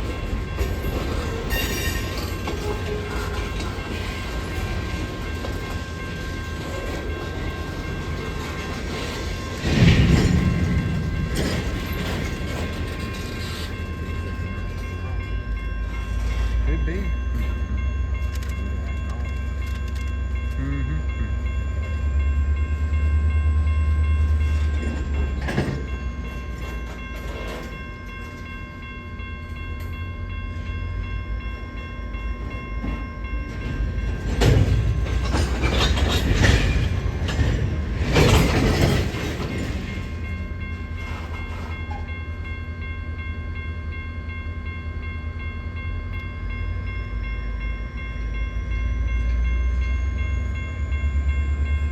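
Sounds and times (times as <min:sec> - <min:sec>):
train clattering and rattling: 0:00.0 - 0:51.9
train rumbling by: 0:00.0 - 0:51.9.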